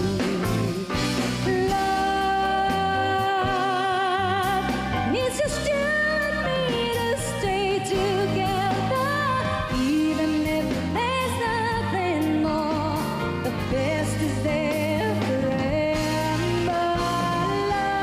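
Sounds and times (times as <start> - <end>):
band accompaniment: 0.0 - 18.0
woman singing pop ballad: 0.0 - 18.0.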